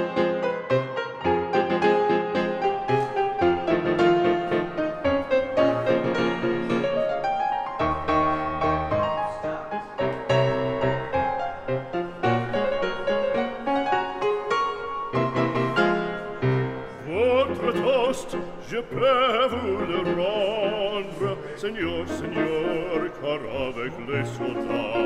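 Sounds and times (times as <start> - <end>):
classical piano music: 0.0 - 25.0.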